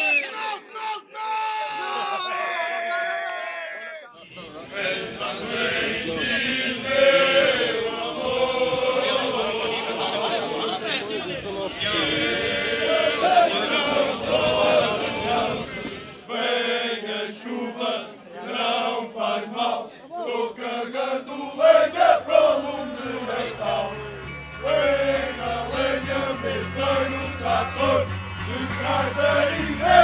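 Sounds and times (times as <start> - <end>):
men singing together: 4.3 - 19.6, 20.4 - 30.0.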